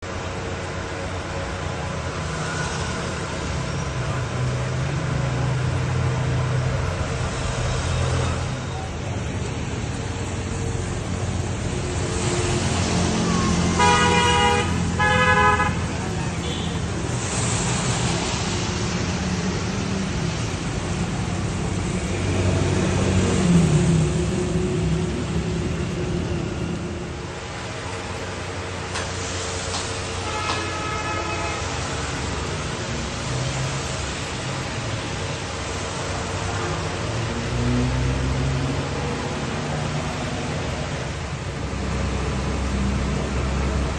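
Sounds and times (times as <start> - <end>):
vehicle engine hum: 0.0 - 43.9
rain hissing: 0.2 - 43.9.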